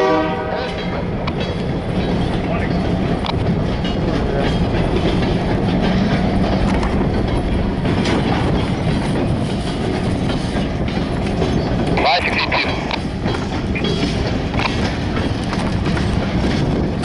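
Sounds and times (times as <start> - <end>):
diesel locomotive rumble: 0.0 - 17.0
train wheels clanking over rail joints: 0.0 - 17.0.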